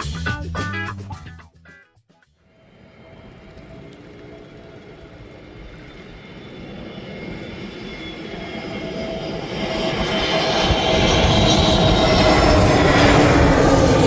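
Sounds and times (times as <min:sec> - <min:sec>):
jet airliner engine whine: 0:02.5 - 0:14.0.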